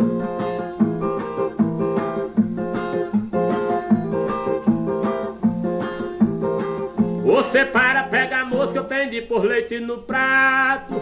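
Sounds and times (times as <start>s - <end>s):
guitar strummed chords: 0.0s - 11.0s.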